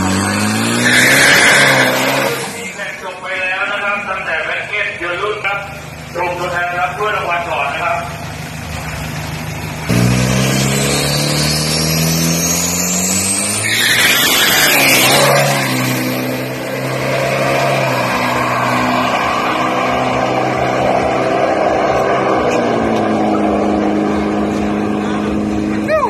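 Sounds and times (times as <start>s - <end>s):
diesel engine accelerating: 0.0s - 26.0s.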